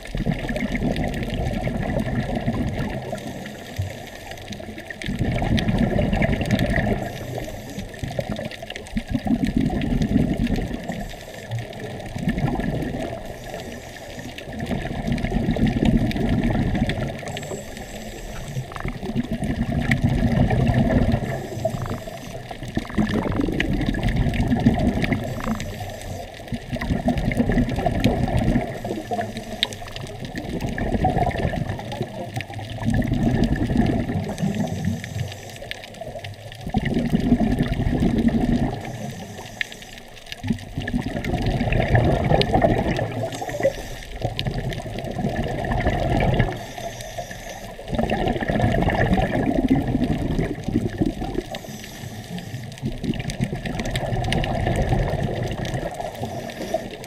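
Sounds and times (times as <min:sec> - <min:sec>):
scuba regulator bubbling underwater: 0:00.0 - 0:57.0.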